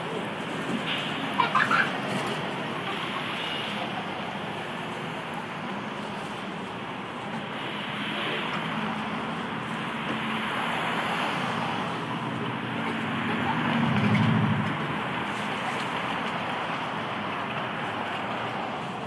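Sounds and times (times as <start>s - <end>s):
streetcar rolling on track: 0.0s - 19.0s.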